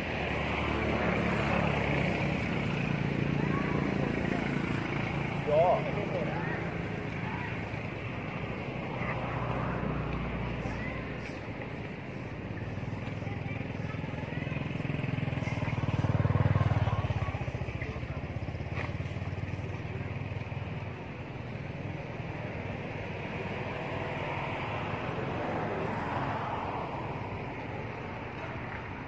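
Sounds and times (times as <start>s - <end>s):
vehicle engine running: 0.0s - 23.8s.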